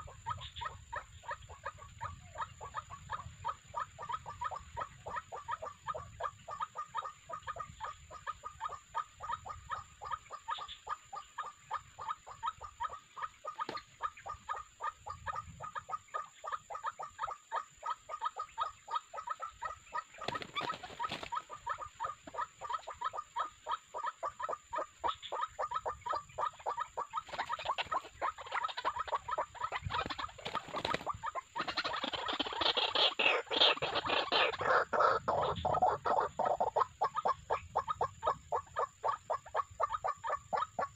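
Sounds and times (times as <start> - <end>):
waterhen calling: 0.0 - 40.9.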